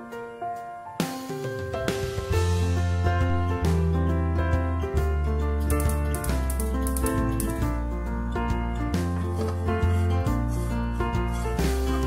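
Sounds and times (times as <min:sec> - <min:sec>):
background music chords: 0:00.0 - 0:12.0.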